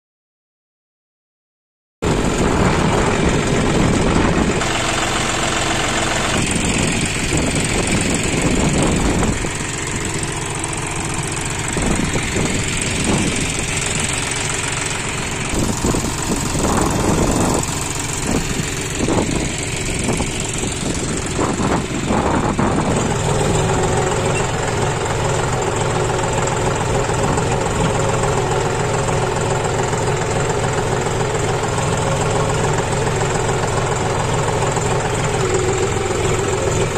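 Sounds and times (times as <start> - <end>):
tractor diesel engine running: 2.0 - 36.9.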